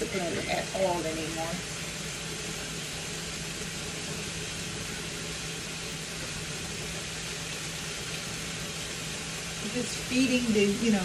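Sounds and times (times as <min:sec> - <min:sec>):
gas burner hiss: 0:00.0 - 0:11.0.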